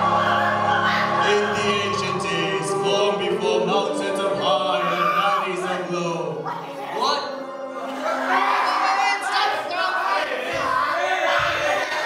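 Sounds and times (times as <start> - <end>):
operatic choral singing: 0.0 - 12.0.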